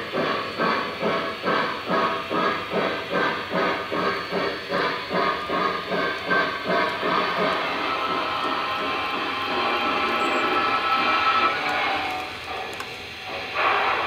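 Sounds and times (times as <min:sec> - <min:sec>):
model train steam chuffing: 0:00.0 - 0:14.0.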